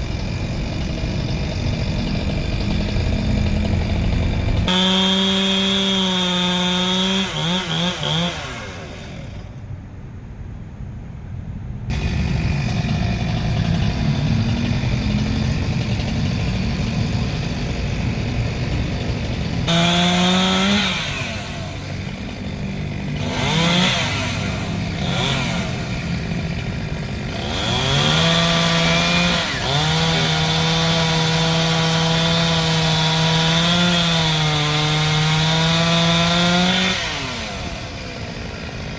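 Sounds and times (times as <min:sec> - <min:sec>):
chainsaw cutting into wood: 0:00.0 - 0:09.5, 0:11.9 - 0:38.9
chainsaw revving: 0:00.0 - 0:09.5, 0:11.9 - 0:38.9.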